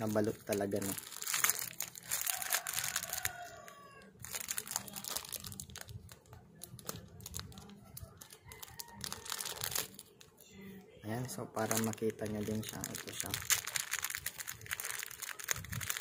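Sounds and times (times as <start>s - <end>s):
plastic wrapping crinkling: 0.0s - 10.5s, 11.1s - 16.0s.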